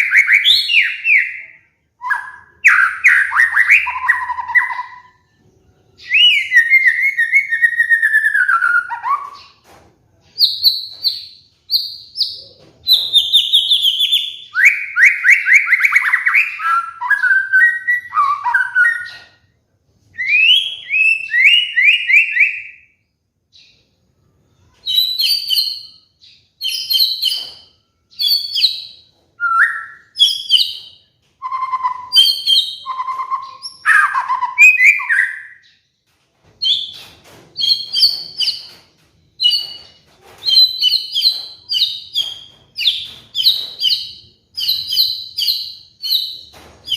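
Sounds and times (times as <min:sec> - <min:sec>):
bird singing varied song: 0:00.0 - 0:46.9.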